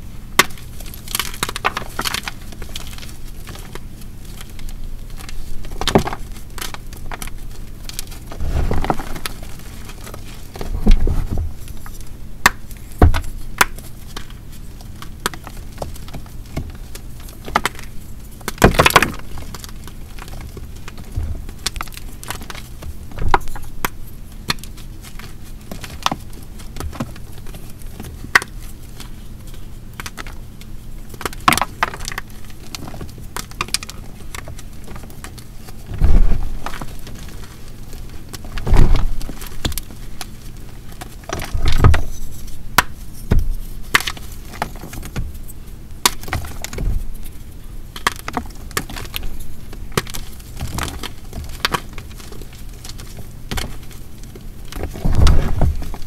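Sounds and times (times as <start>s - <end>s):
chalk crunching and crumbling: 0.4s - 56.0s.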